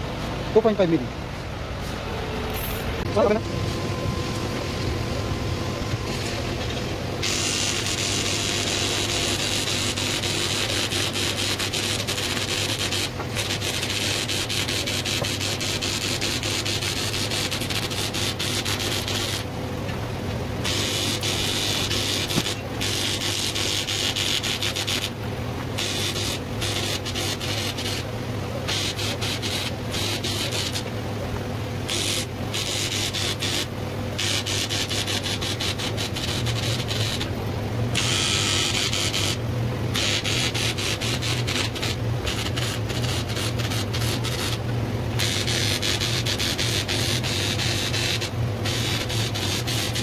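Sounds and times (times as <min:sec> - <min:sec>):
low electrical hum: 0:00.0 - 0:50.0
welding arc crackling hiss: 0:06.1 - 0:19.5, 0:20.6 - 0:25.2, 0:25.8 - 0:30.9, 0:31.8 - 0:37.3, 0:37.9 - 0:50.0.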